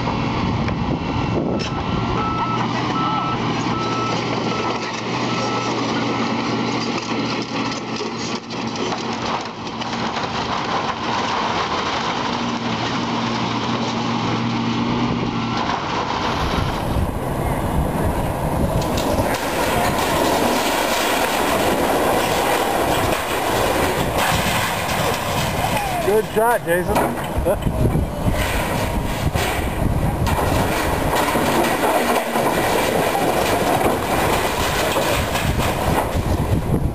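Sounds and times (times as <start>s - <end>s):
heavy machinery engine hum: 0.0s - 36.9s
rough rumble with clatter: 0.0s - 36.9s.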